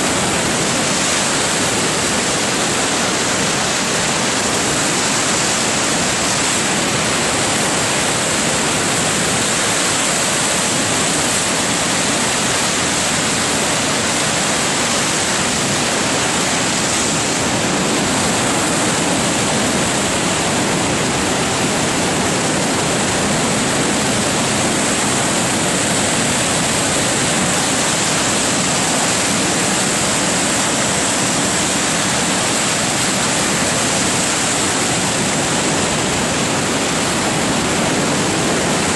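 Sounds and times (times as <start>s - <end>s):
floodwater rushing through dam: 0.0s - 38.9s.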